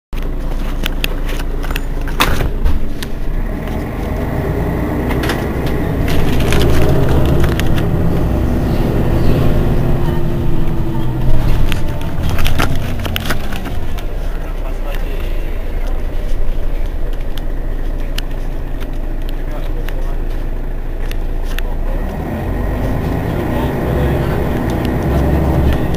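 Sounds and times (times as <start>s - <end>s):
bus engine idling: 0.2s - 25.9s.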